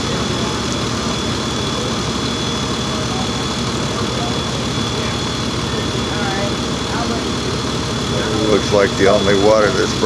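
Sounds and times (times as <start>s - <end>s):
diesel engine running: 0.0s - 10.0s
thin high whine: 0.0s - 10.0s.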